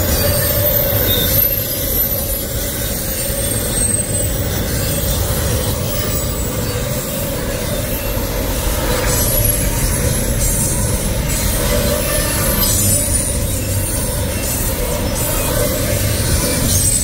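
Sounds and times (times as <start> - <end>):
high-pitched wheel squeal: 0.0 - 17.0
train wheels rumbling on rails: 0.0 - 17.0.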